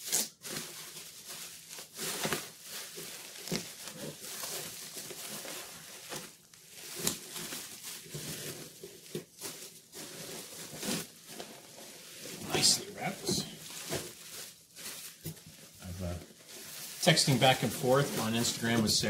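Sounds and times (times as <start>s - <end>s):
bubble wrap rustling and crinkling: 0.0s - 19.0s.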